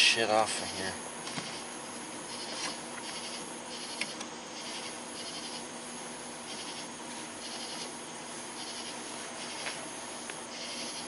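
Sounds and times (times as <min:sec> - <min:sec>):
faint steady hum: 0:00.0 - 0:11.0
night insects chirping: 0:00.0 - 0:11.0.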